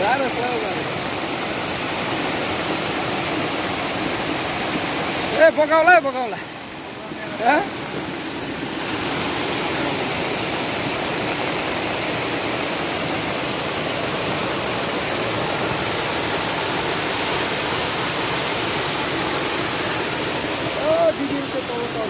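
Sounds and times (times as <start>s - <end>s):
stream torrent roaring: 0.0s - 22.0s.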